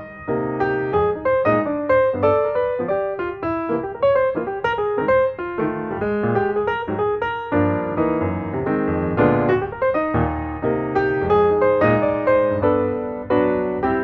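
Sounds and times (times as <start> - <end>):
background piano music: 0.0 - 14.0.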